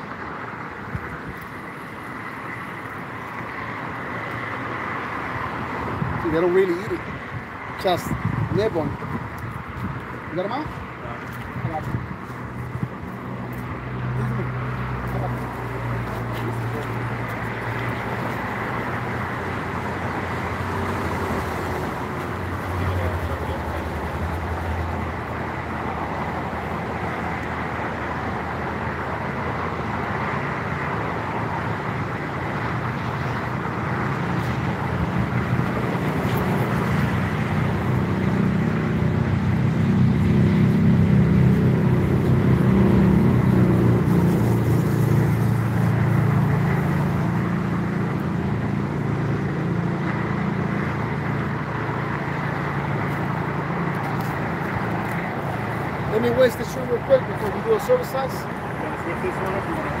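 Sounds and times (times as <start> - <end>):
traffic noise: 0.0 - 60.0
vehicle engine rumble passing: 0.0 - 60.0.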